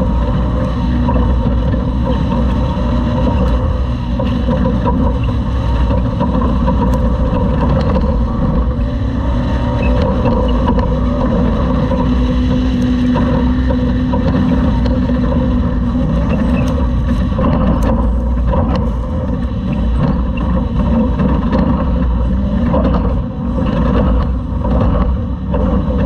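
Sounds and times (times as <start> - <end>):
faint clicks and rattles: 0.0 - 26.0
road and chassis noise: 0.0 - 26.0
truck engine drone: 0.0 - 26.0.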